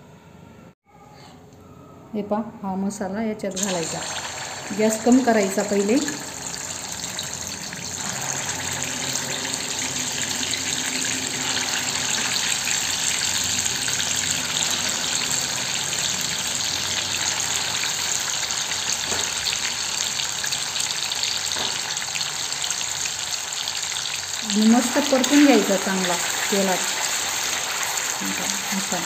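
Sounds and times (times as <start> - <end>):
paste sizzling in hot oil: 3.6 - 29.0.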